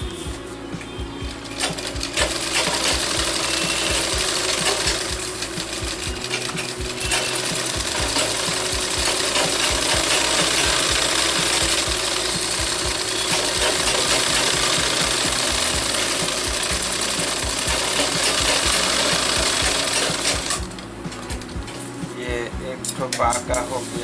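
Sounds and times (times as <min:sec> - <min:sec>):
sewing machine clattering: 0:01.5 - 0:21.4.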